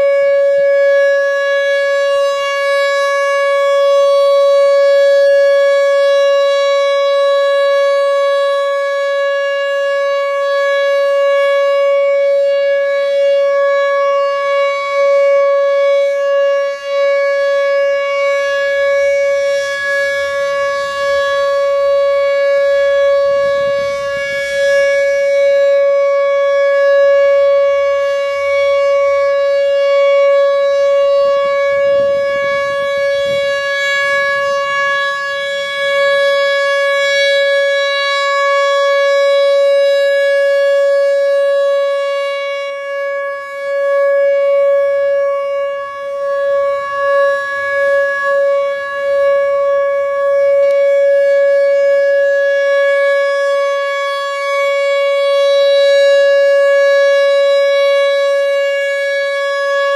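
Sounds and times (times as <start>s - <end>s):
electronic siren steady tone: 0.0s - 59.9s.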